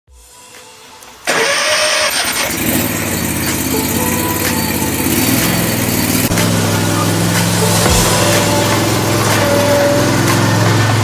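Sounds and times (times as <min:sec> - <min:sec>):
engine starter cranking: 0:01.2 - 0:11.0
mower engine running: 0:01.3 - 0:11.0.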